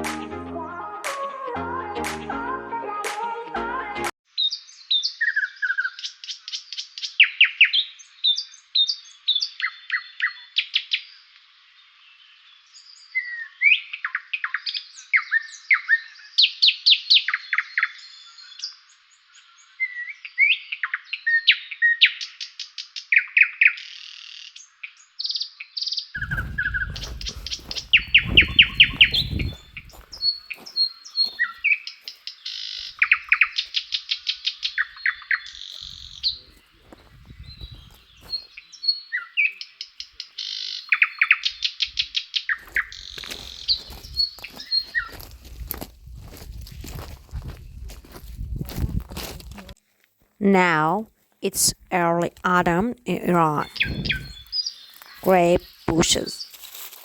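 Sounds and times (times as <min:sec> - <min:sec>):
songbirds singing and calling: 0:04.3 - 0:48.8, 0:51.8 - 0:56.9.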